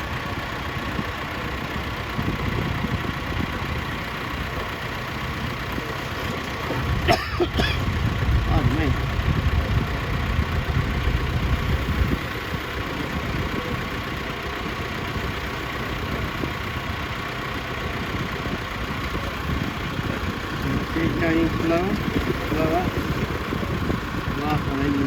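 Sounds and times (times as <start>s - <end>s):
tractor engine under load: 0.0s - 25.0s.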